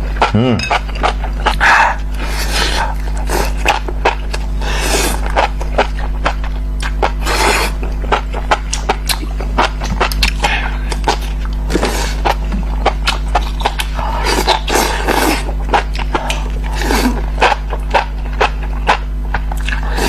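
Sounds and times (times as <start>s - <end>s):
wet chewing and smacking: 0.2s - 20.0s
slurping: 1.0s - 5.9s, 6.8s - 9.3s, 9.9s - 19.0s, 19.6s - 20.0s.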